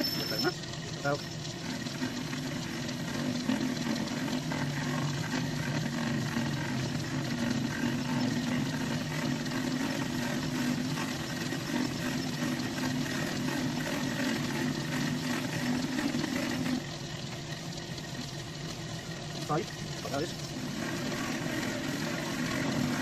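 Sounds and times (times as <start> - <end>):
metal lathe humming: 0.0 - 23.0.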